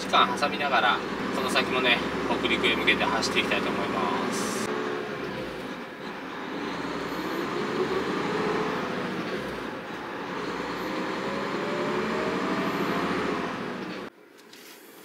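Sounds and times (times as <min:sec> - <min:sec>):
truck diesel engine: 0:00.0 - 0:14.1
road noise: 0:00.0 - 0:14.2.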